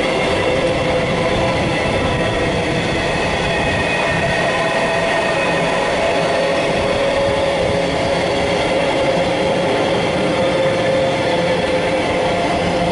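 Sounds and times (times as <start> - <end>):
train wheels rumbling on rails: 0.0 - 12.9.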